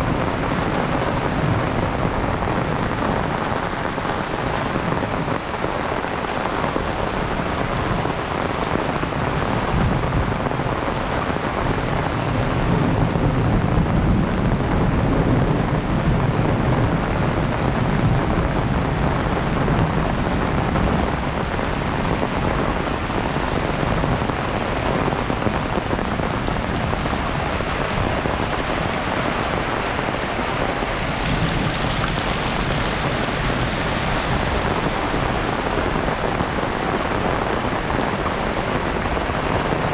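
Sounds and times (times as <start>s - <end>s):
heavy rain pouring: 0.0s - 39.9s
low rumble of thunder: 6.4s - 39.9s.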